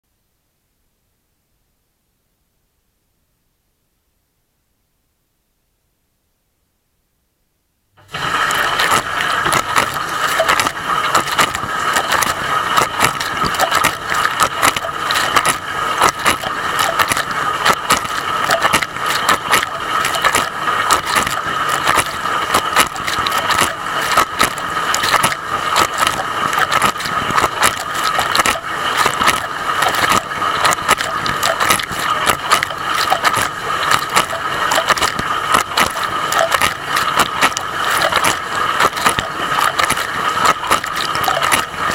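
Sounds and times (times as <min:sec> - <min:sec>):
dishwasher whine: 0:08.0 - 0:41.9.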